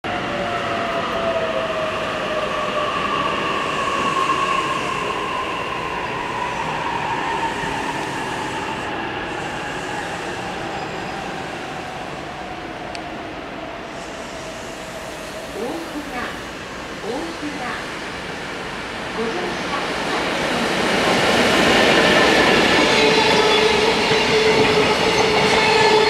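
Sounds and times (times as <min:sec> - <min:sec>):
train rail noise: 0:00.1 - 0:26.0.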